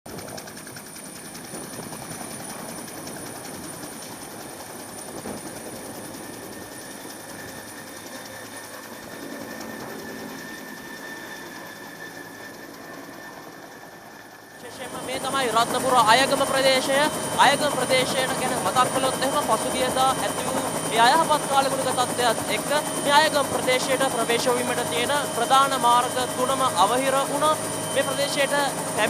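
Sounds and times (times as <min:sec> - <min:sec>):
helicopter running: 0:00.1 - 0:29.0.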